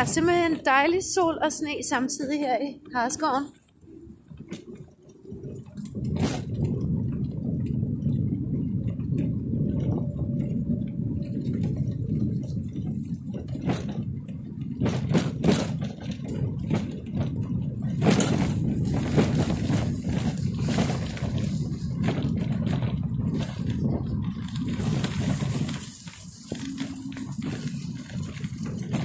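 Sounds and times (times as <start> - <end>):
crackling clicks: 0.0 - 29.0
trishaw rolling on dirt track: 0.0 - 29.0.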